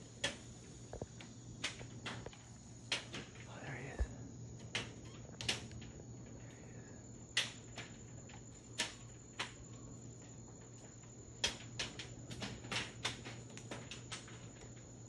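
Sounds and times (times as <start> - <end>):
berries tapping on a roof: 0.1 - 15.0.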